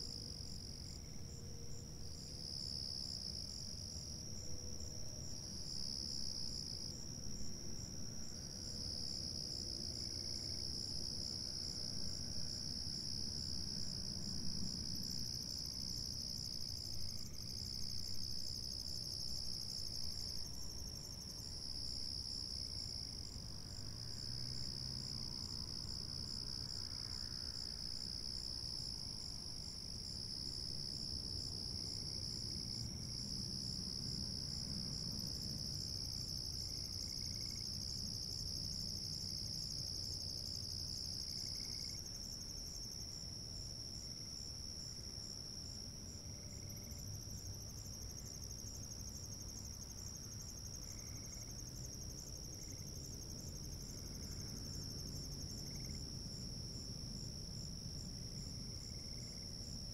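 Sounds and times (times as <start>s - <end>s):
crickets trilling: 8.2s - 59.9s.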